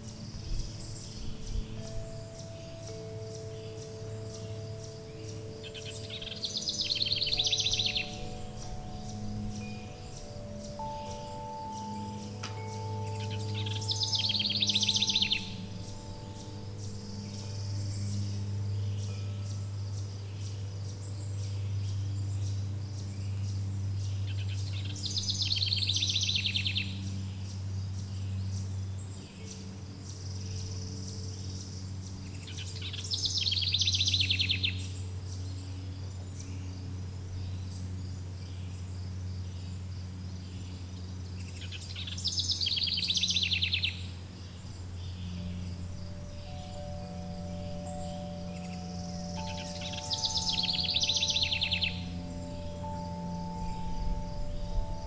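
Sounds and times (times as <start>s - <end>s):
faint high chirring: 0.0s - 55.0s
songbird trilling: 0.0s - 55.0s
steady low drone: 0.0s - 55.0s.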